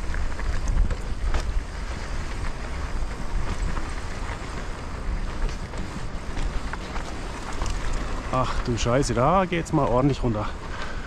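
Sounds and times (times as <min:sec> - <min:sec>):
bike clicks and rattles: 0:00.0 - 0:11.0
wind buffeting microphone: 0:00.0 - 0:11.0.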